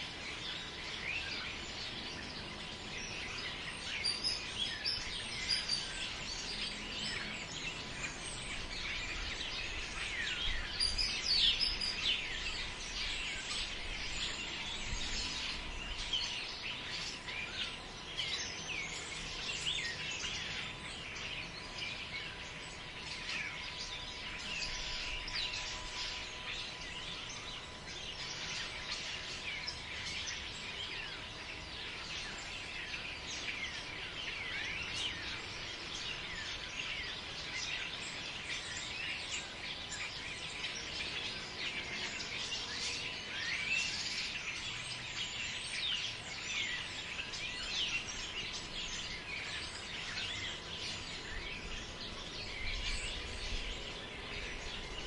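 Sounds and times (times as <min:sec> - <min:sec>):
chorus of small birds chirping: 0:00.0 - 0:55.0
wind in the trees: 0:00.0 - 0:55.0.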